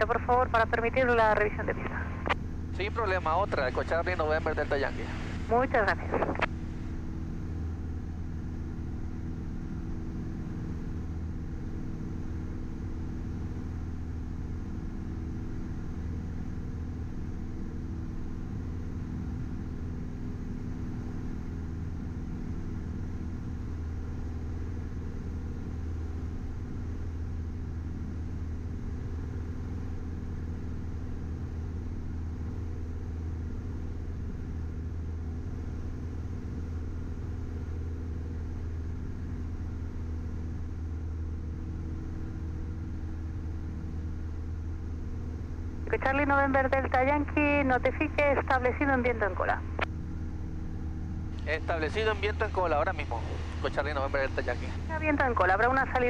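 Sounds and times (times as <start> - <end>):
airplane engine droning: 0.0 - 56.0.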